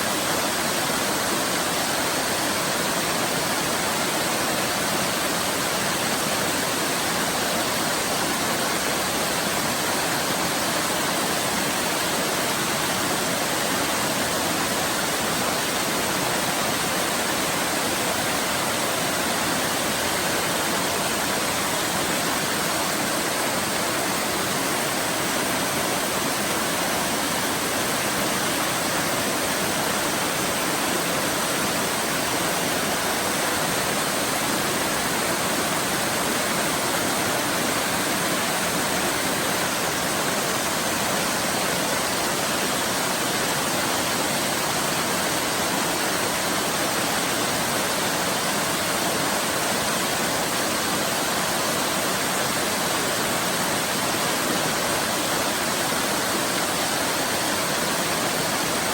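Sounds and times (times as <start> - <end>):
waterfall splashing: 0.0 - 58.9.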